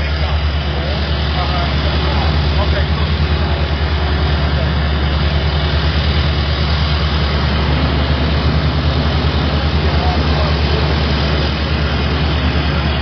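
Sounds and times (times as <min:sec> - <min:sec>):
heavy engine idling: 0:00.0 - 0:13.0.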